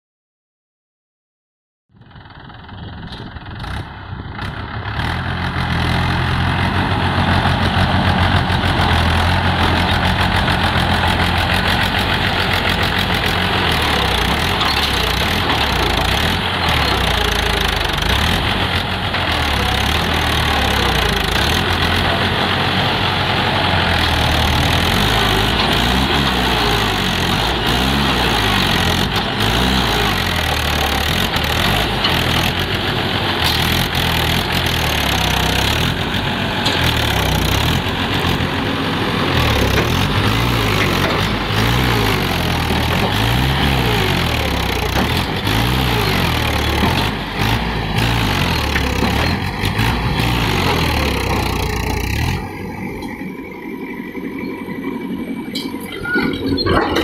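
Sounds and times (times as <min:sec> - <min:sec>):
tractor diesel engine running: 0:01.9 - 0:57.0.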